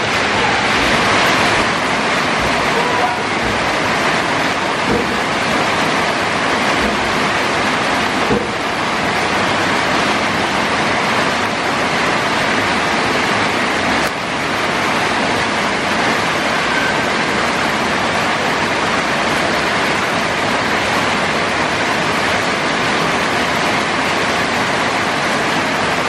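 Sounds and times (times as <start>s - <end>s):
heavy rain on flooded street: 0.0s - 26.0s.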